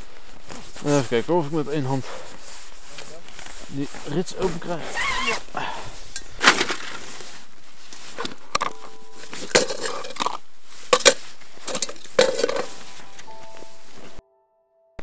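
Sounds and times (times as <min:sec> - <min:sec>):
snow crunching: 0:00.0 - 0:14.2
tent fabric rustling: 0:00.0 - 0:14.2.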